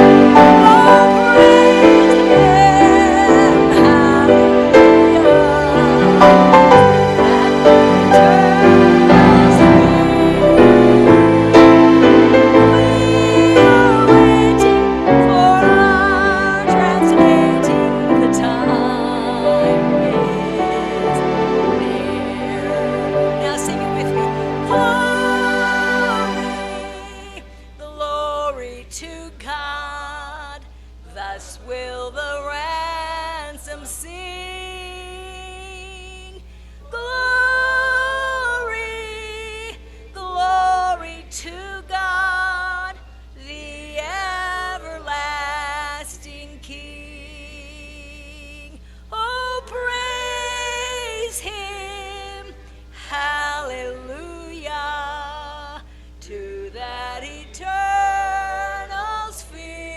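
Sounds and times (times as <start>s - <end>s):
steady low hum: 0.0s - 59.9s
woman singing slow song: 0.0s - 59.9s.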